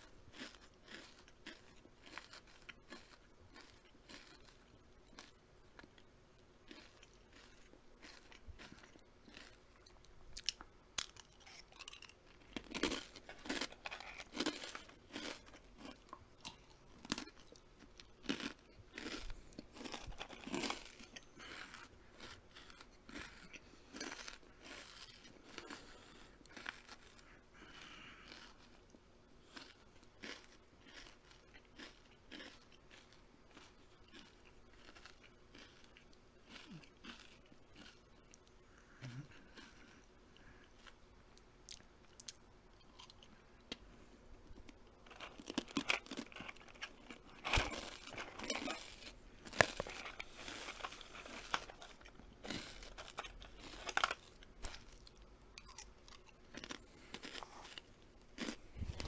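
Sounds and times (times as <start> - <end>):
crunching and chewing crisp food: 0.0 - 59.0.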